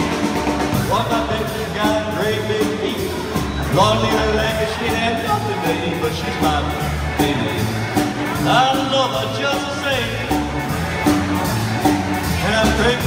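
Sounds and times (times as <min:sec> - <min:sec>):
drum kit beat: 0:00.0 - 0:13.0
electric bass: 0:00.0 - 0:13.0
swing band melody: 0:00.0 - 0:13.0.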